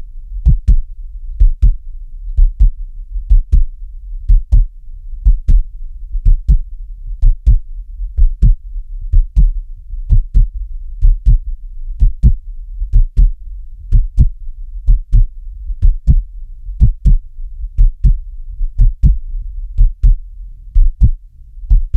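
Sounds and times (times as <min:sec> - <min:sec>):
heartbeat thumping: 0:00.0 - 0:21.9
low constant rumble: 0:00.0 - 0:21.9.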